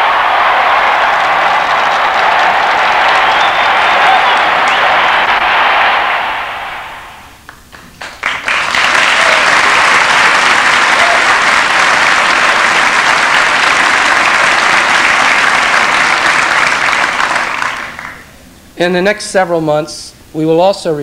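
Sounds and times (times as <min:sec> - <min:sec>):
audience applause: 0:00.0 - 0:18.3.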